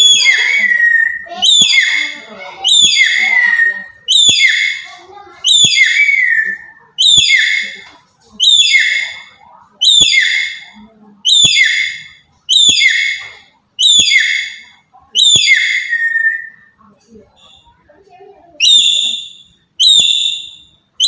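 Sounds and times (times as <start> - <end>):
parrot shrill calls: 0.0 - 7.8, 8.4 - 16.7, 18.6 - 20.8.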